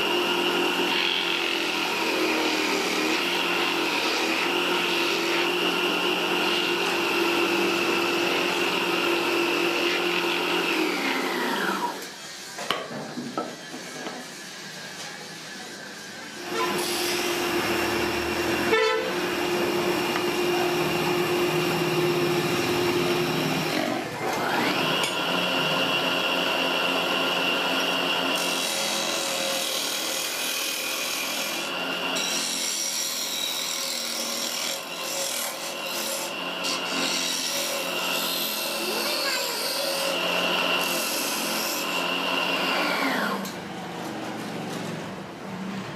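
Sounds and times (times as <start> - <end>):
tools cutting and scraping wood: 0.0 - 12.8, 16.4 - 43.6.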